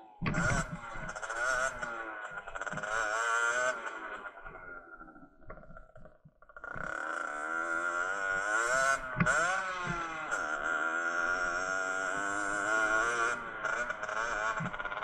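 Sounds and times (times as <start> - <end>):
two-stroke engine revving: 0.2 - 4.8, 6.6 - 15.0.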